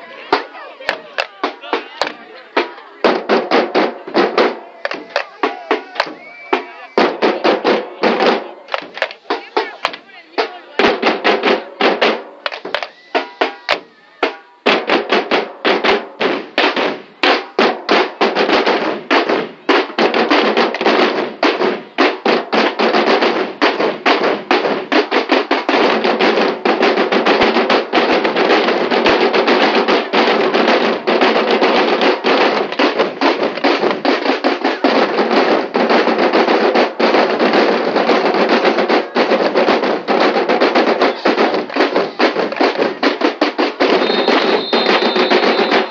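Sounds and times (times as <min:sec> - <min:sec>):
marching snare drums: 0:00.0 - 0:45.9.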